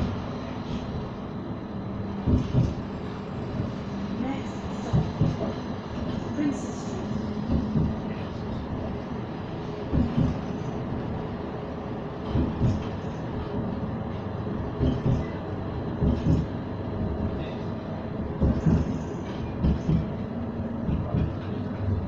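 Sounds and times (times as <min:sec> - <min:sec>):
tram rumbling: 0:00.0 - 0:22.0.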